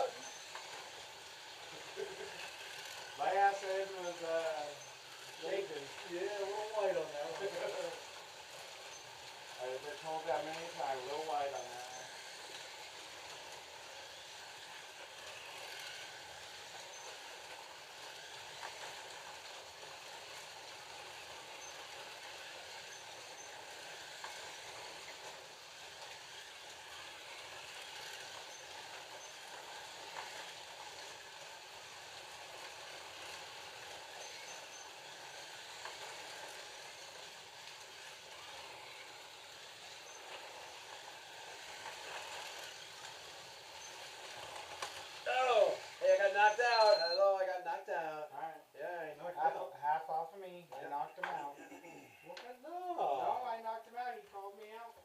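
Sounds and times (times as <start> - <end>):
slot car motors whirring: 0.0 - 47.2.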